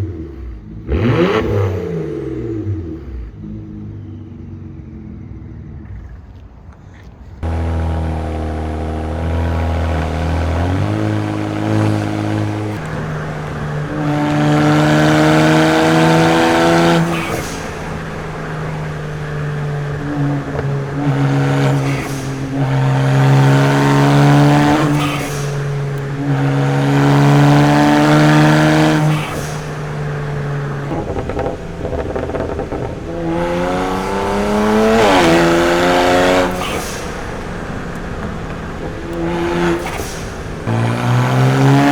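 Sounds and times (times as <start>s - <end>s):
car engine revving: 0.0s - 6.0s, 7.4s - 41.9s.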